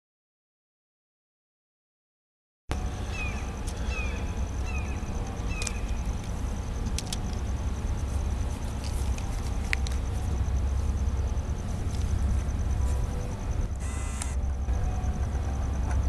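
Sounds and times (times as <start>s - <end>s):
faint high whine: 2.7s - 16.0s
train locomotive rumble: 2.7s - 16.0s.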